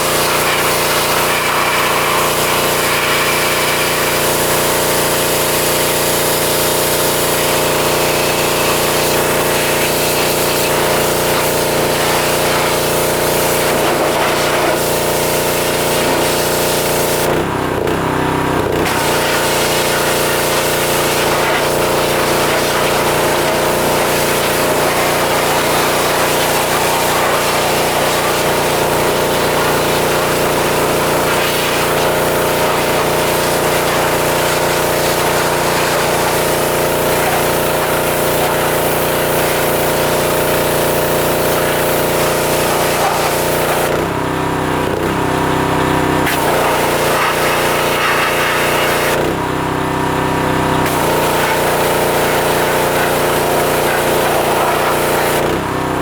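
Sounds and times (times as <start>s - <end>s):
water spray hissing: 0.0s - 17.3s, 18.9s - 44.0s, 46.3s - 49.2s, 50.9s - 55.5s
pressure washer engine hum: 0.0s - 56.0s.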